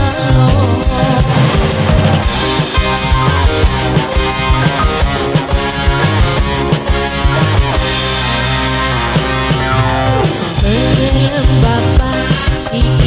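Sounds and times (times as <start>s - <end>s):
busy drum beat: 0.0s - 13.0s
guitar: 0.0s - 13.0s.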